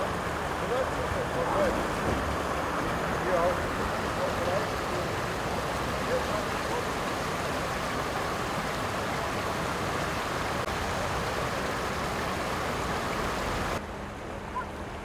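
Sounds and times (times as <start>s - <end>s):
floodwater rushing over a ledge: 0.0s - 13.8s.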